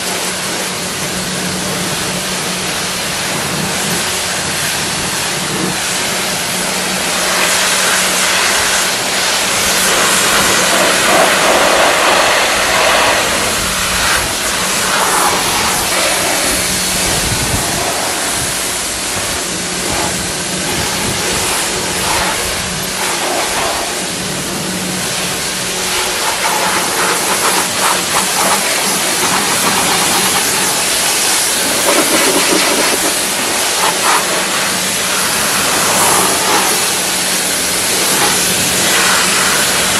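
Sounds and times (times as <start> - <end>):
pressure washer spraying hiss: 0.0 - 39.9
pump motor humming: 0.0 - 39.9.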